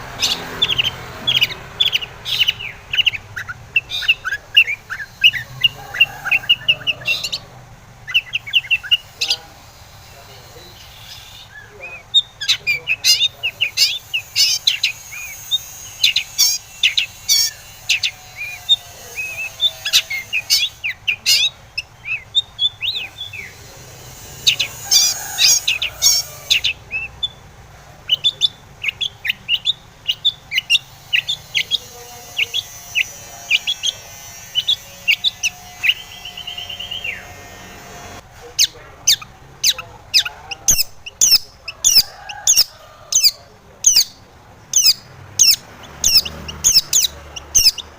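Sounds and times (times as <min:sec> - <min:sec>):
rattling bird trill: 0:00.0 - 0:47.9
shrike singing: 0:00.0 - 0:47.9.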